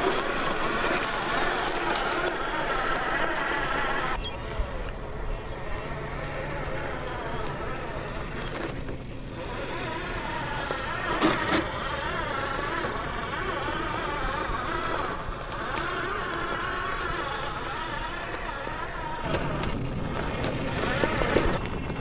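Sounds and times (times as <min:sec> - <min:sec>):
toy truck motor whining: 0:00.0 - 0:22.0
tyres crunching on gravel: 0:00.0 - 0:22.0.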